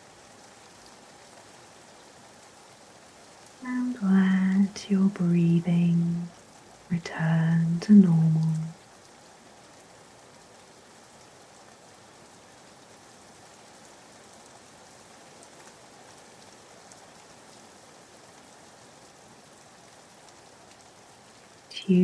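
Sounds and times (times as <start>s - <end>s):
rain pattering: 0.0s - 22.0s
scattered raindrops: 0.0s - 22.0s.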